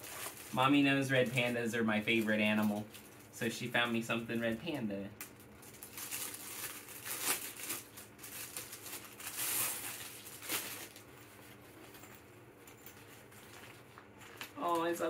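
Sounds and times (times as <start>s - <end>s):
packaging rustling and crinkling: 0.0s - 3.3s, 5.2s - 15.0s.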